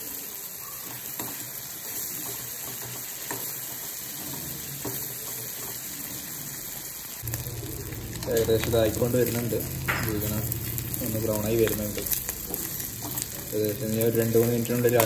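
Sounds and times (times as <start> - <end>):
mussels sizzling in hot oil: 0.0 - 15.0.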